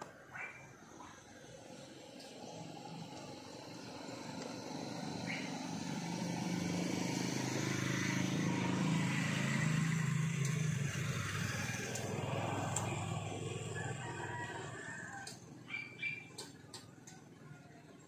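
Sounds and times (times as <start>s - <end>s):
vehicle engine passing by: 0.3s - 17.4s.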